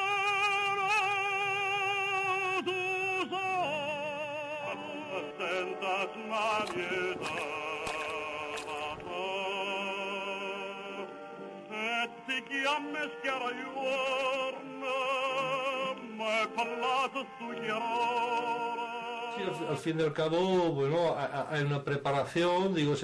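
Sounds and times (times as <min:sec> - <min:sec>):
operatic singing with vibrato: 0:00.0 - 0:19.7.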